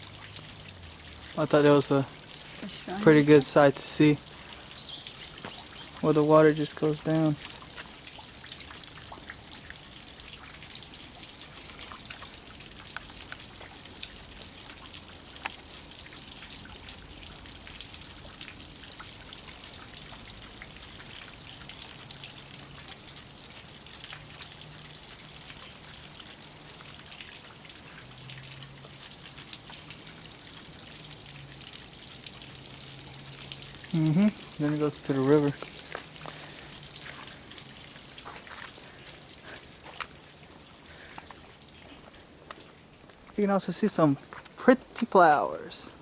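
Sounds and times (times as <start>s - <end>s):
stream water rushing and splashing: 0.0s - 23.4s, 24.2s - 46.0s.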